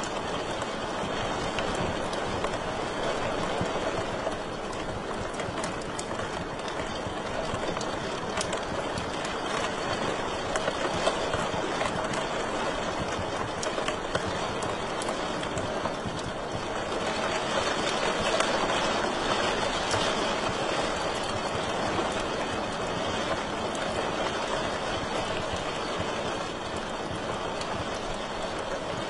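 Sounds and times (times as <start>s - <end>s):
fire crackles and pops: 0.0s - 29.0s.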